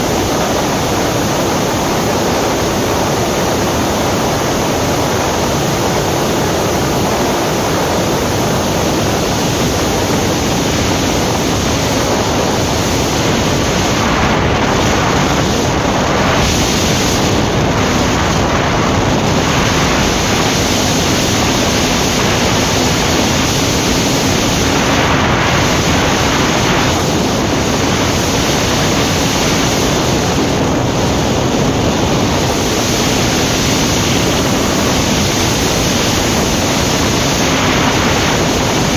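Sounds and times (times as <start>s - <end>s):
motorcycle engine drone: 0.0s - 38.9s
wind rushing on microphone: 0.0s - 38.9s.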